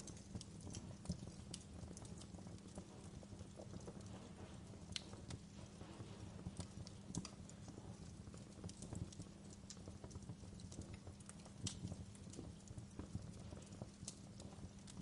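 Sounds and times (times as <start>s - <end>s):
fire crackling and popping: 0.0s - 15.0s
low steady rumble: 0.0s - 15.0s.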